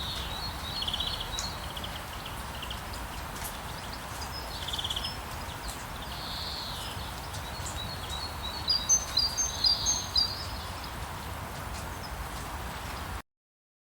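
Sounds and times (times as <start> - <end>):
birds singing: 0.0 - 12.2
rain falling: 0.0 - 13.2.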